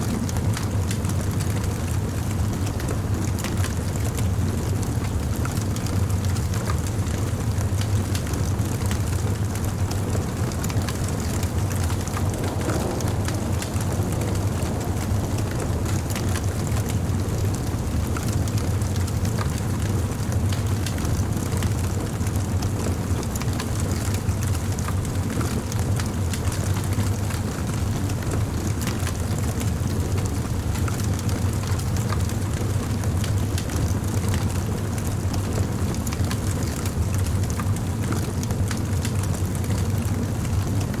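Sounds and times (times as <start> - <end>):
low fire rumble: 0.0 - 41.0
wood fire crackling and popping: 0.1 - 41.0.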